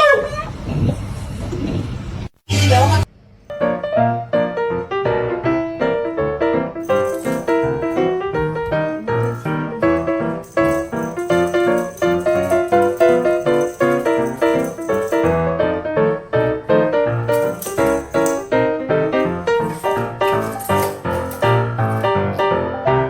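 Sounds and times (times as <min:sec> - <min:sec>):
piano music: 0:03.5 - 0:23.0.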